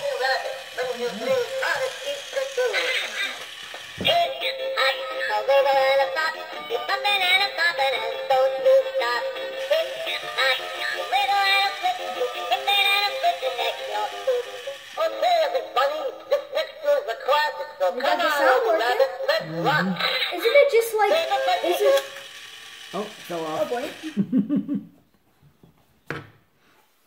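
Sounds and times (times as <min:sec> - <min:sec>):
tinny toy song: 0:00.0 - 0:24.2.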